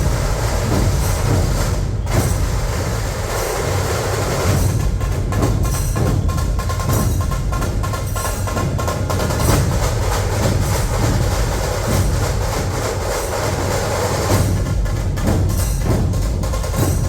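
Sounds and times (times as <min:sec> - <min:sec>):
deep booming barrel drums: 0:00.0 - 0:17.0
rapid sharp drum strokes: 0:00.0 - 0:17.0.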